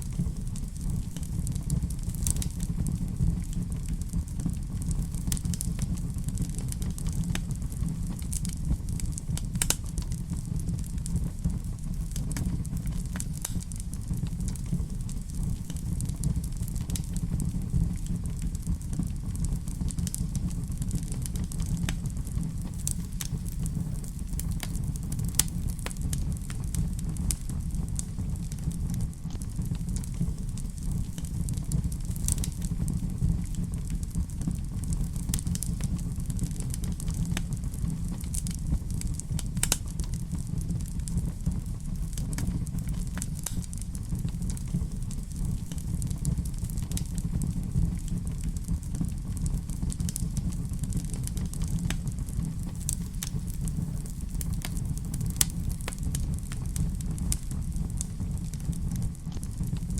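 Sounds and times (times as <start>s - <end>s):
fire flames rumbling: 0.0s - 59.9s
wood fire crackles and pops: 0.0s - 59.9s.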